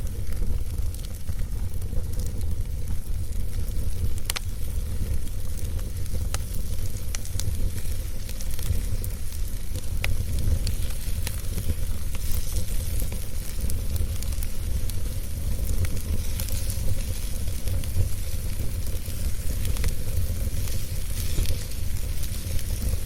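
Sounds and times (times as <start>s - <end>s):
fire roaring and crackling: 0.0s - 23.0s.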